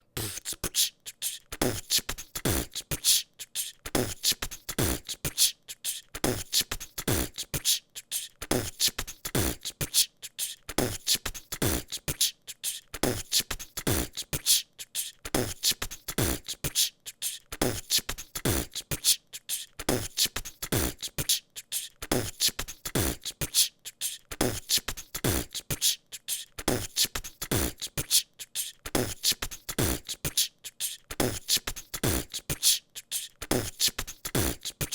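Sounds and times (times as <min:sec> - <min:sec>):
person beatboxing: 0:00.1 - 0:34.9.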